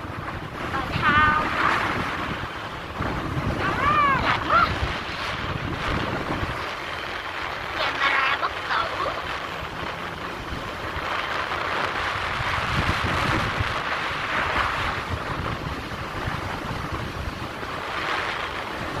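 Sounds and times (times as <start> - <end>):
low road and engine rumble: 0.0 - 19.0
wind rushing over microphone: 0.0 - 19.0.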